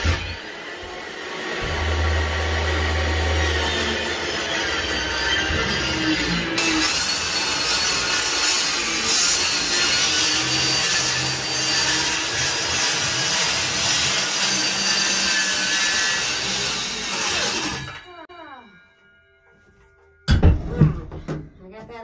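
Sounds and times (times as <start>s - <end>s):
circular saw cutting wood: 0.0s - 18.3s.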